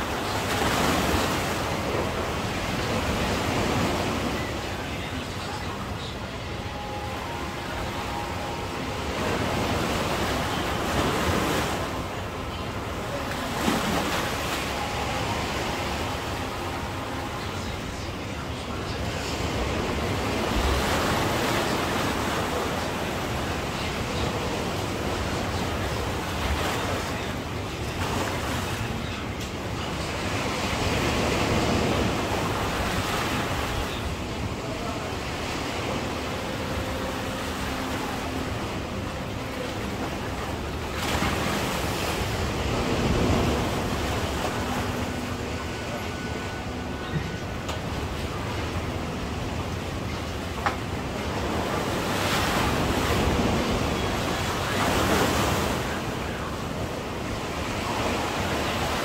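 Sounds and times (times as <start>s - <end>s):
sea surf rushing: 0.0s - 59.0s
waves breaking on beach: 0.0s - 59.0s.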